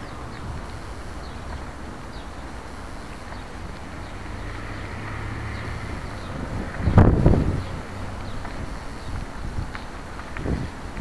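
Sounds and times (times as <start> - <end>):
wind rumble on microphone: 0.0 - 2.3, 3.4 - 11.0
bicycle tyres rolling on pavement: 0.0 - 11.0.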